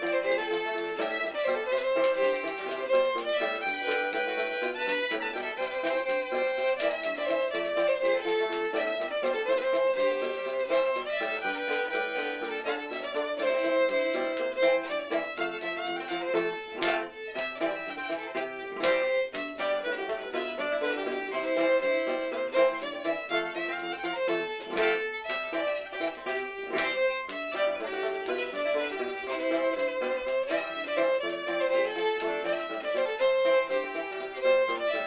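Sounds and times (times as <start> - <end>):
fiddle tune: 0.0 - 35.0.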